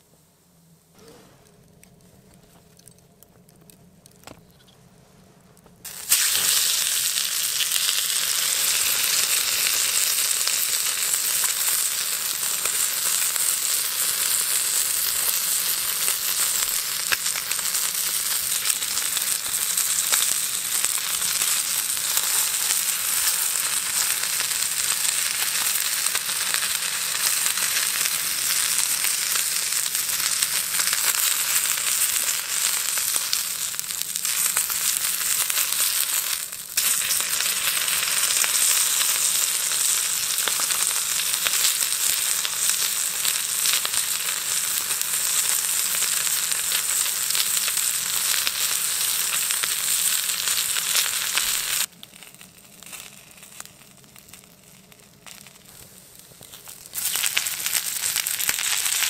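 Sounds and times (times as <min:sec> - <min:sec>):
fish sizzling in a pan: 0:05.8 - 0:59.0.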